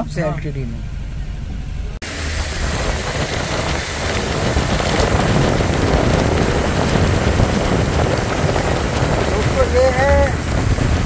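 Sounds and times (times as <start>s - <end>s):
car interior road and wind noise: 0.0s - 11.0s.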